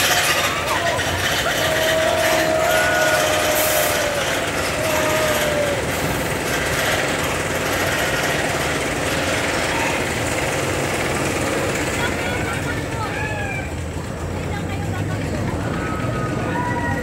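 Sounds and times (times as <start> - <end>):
roller coaster chain clattering: 0.0 - 17.0.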